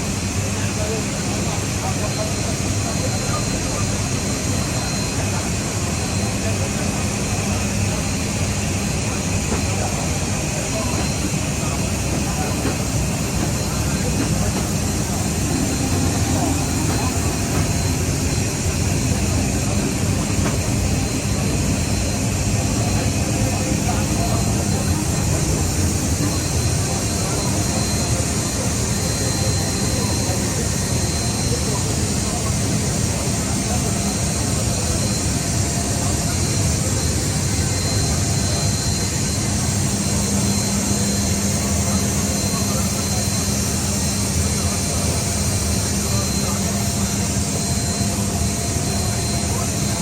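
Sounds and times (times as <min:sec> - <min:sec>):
faint high whine: 0:00.0 - 0:50.0
jet engine rumble: 0:00.0 - 0:50.0.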